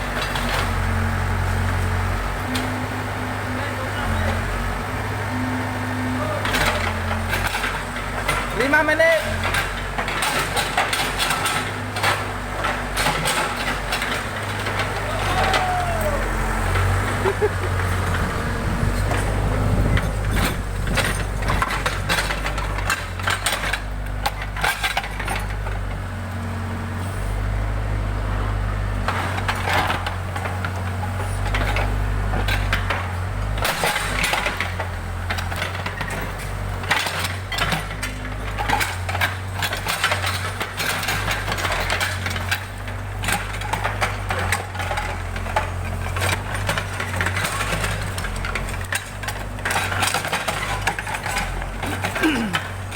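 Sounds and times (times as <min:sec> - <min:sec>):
clanks knocks and crunching: 0:00.0 - 0:02.8, 0:06.4 - 0:26.4, 0:28.4 - 0:52.9
diesel engine running: 0:00.0 - 0:52.9.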